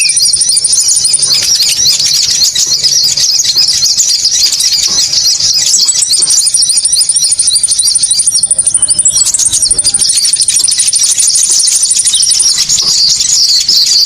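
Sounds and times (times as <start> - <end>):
high-pitched bird chirping: 0.0 - 14.0.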